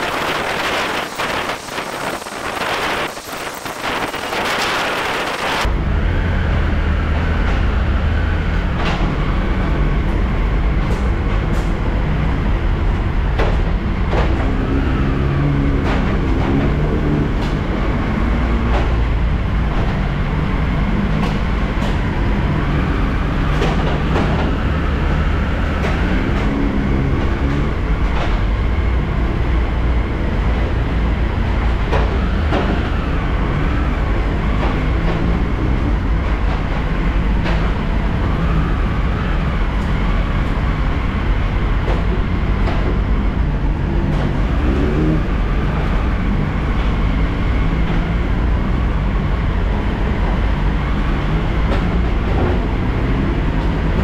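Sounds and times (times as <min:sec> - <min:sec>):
train rumbling at speed: 0:00.0 - 0:54.0.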